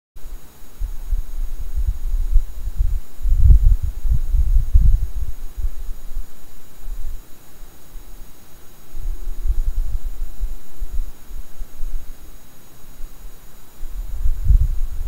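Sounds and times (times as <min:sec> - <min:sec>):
wind buffeting microphone: 0:00.3 - 0:07.3, 0:08.8 - 0:12.2, 0:12.9 - 0:15.0.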